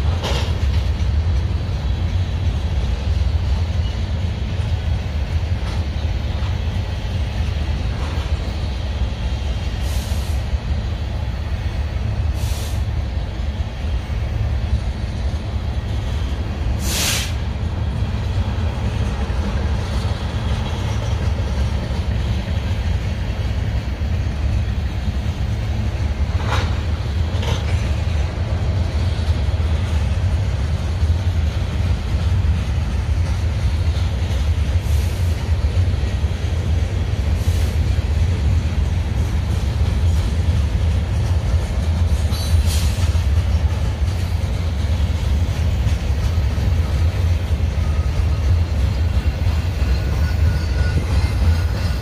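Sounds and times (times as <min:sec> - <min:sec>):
freight train rumbling past: 0:00.0 - 0:52.0
sharp noises from train cars: 0:00.0 - 0:52.0.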